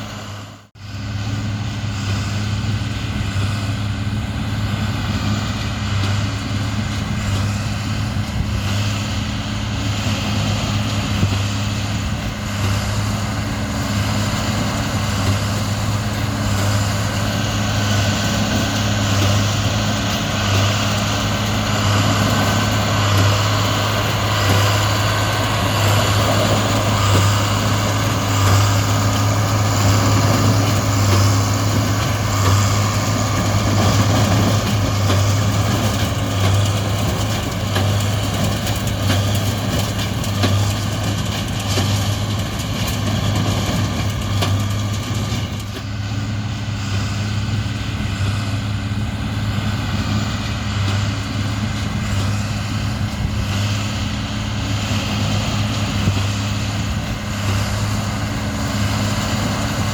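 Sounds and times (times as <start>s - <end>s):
large diesel engine running: 0.0s - 59.9s.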